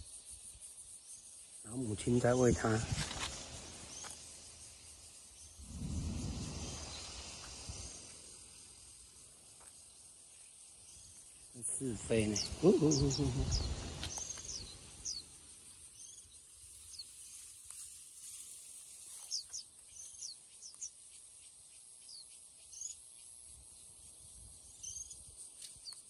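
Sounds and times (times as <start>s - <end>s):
small birds chirping: 0.0s - 26.0s
steady high hiss: 0.0s - 26.0s.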